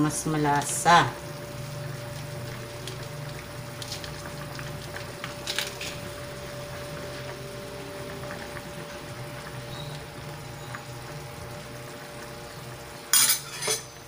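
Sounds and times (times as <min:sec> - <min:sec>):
broth boiling in pot: 0:00.0 - 0:14.0.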